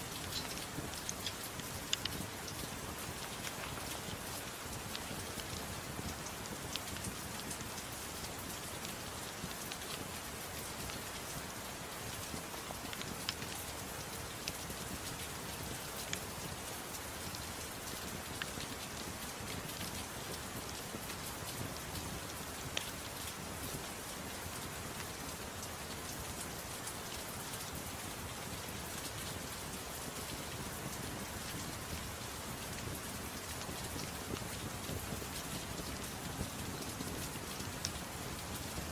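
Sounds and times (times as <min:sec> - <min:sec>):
soft rain falling: 0:00.0 - 0:38.9
wood fire crackling: 0:00.0 - 0:38.9.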